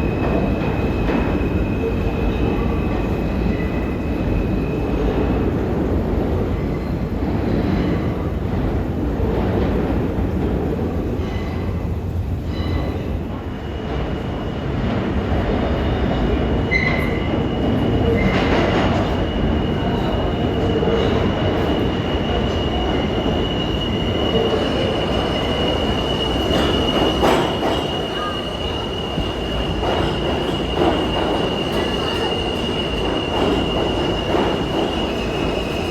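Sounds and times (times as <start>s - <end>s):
subway train rumbling on rails: 0.0s - 35.9s.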